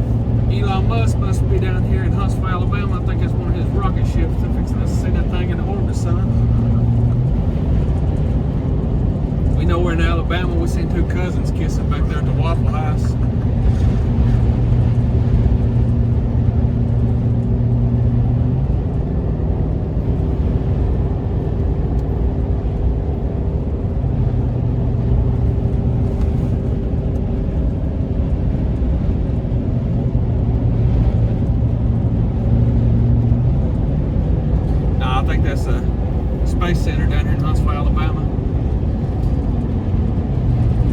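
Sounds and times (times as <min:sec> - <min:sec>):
low engine drone: 0:00.0 - 0:40.9
road noise inside vehicle: 0:00.0 - 0:40.9.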